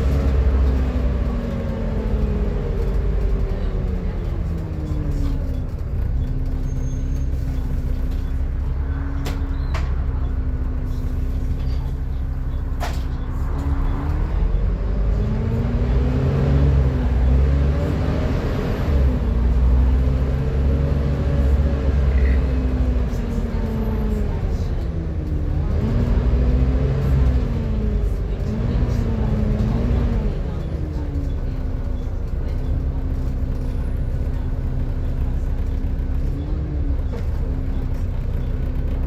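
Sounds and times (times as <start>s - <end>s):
bus engine whining: 0.0s - 39.0s.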